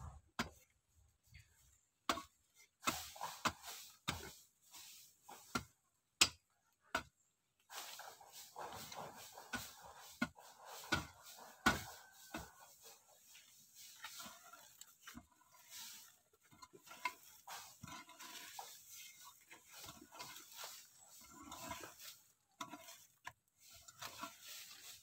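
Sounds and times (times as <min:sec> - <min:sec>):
soil scraping: 0:00.0 - 0:25.0
hoe striking packed earth: 0:02.1 - 0:25.0.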